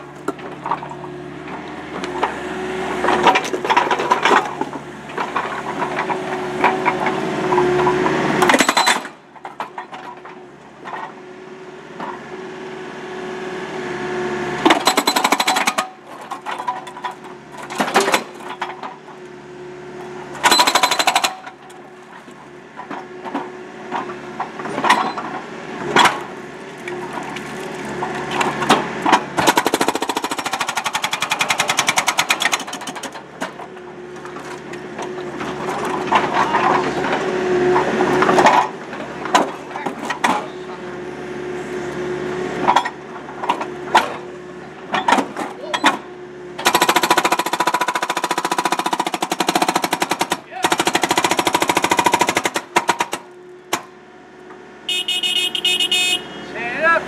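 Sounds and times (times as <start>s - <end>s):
hydraulic breaker pounding concrete: 0.0s - 11.2s, 14.6s - 19.2s, 20.2s - 40.9s, 42.6s - 54.0s
excavator engine running: 0.0s - 57.0s.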